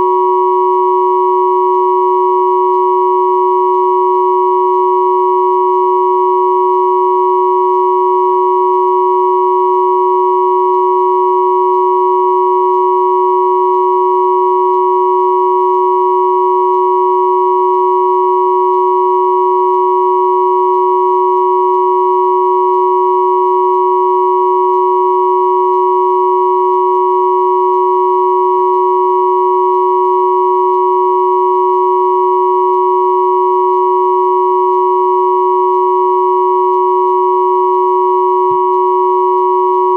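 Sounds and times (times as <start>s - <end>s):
synthesized steady tone hum: 0.0s - 39.9s.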